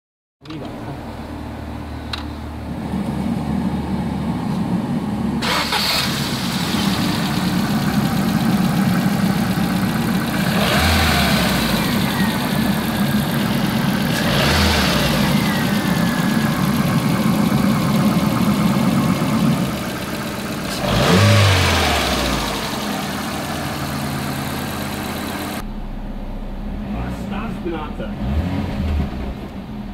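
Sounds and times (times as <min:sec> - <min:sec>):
car engine idling and revving: 0:00.5 - 0:29.9.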